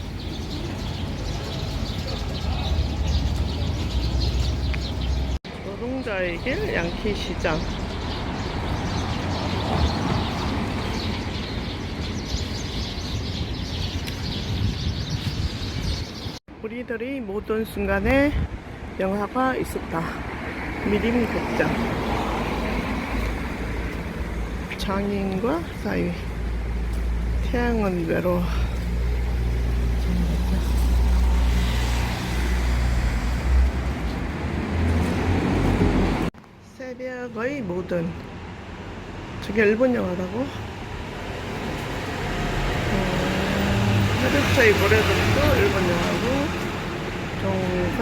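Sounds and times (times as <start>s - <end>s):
sparrows chirping: 0.0s - 16.4s, 19.0s - 34.2s, 39.4s - 48.0s
road noise: 0.0s - 48.0s.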